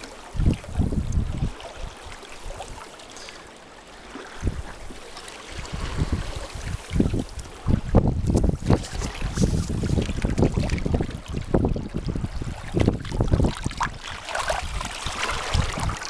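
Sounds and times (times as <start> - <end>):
wind buffeting microphone: 0.0 - 2.8, 4.3 - 16.0
water gurgling along canoe hull: 0.0 - 16.0.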